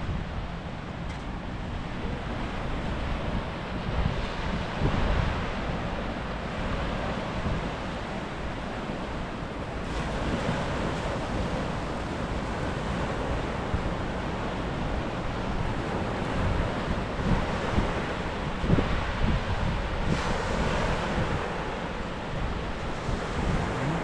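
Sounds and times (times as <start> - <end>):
wind buffeting microphone: 0.0 - 24.0
surf washing onto beach: 1.8 - 24.0.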